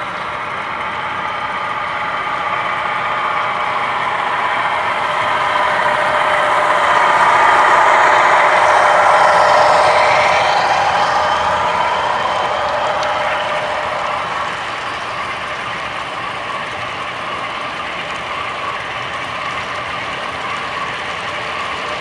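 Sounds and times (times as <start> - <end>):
model locomotive engine sound: 0.0 - 22.0
rumble of wheels on track: 0.0 - 22.0.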